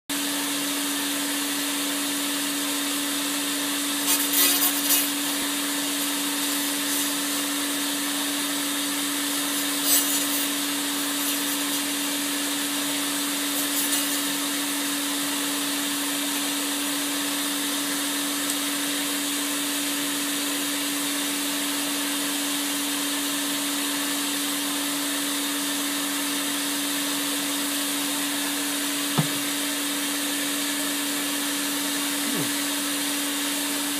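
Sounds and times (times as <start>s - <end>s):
laser cleaner hum and hiss: 0.5s - 33.9s.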